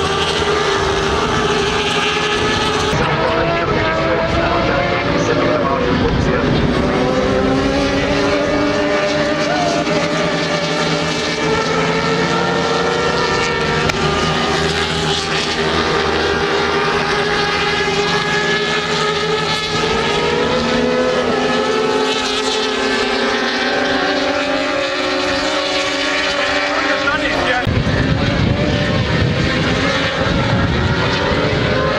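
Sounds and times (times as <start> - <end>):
engines droning: 0.0 - 31.9.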